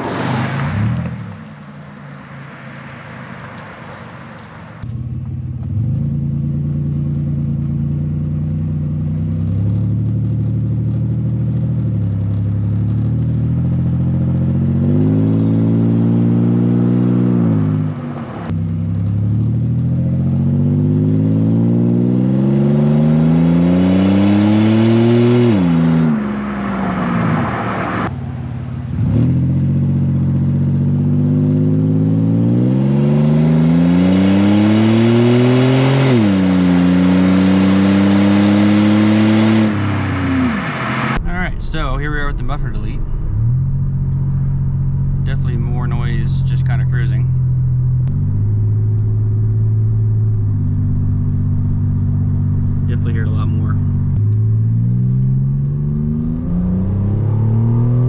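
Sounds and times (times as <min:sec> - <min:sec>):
car exhaust accelerating: 0:00.0 - 0:58.0.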